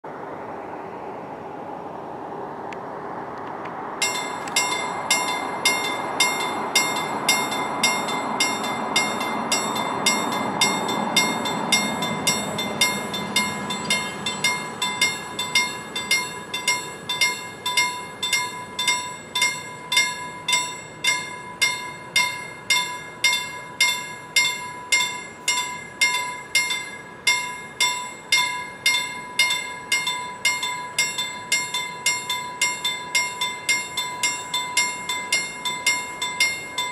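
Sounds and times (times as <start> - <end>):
car passing: 0.0 - 36.9
level crossing warning bell: 4.0 - 36.9.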